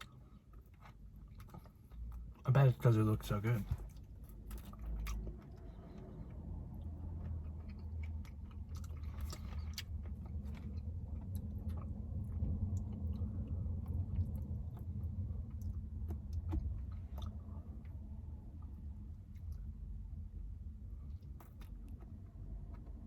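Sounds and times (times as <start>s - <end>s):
wet chewing and mouth smacks: 0.0s - 2.5s, 3.7s - 23.0s
steady low hum: 0.0s - 23.0s.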